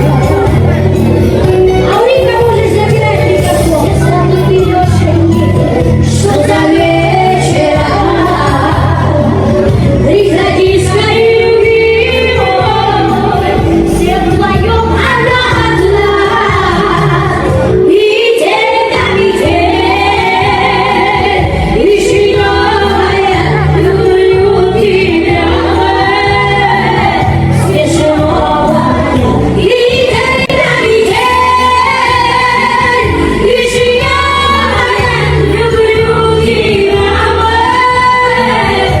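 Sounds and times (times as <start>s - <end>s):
backing beat and bass: 0.0s - 39.0s
woman singing: 1.3s - 39.0s.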